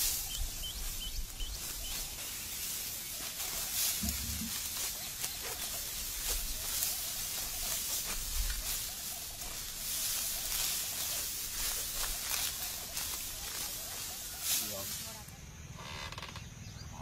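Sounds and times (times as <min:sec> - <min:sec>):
dry wheat stalks rustling: 0:00.0 - 0:15.4.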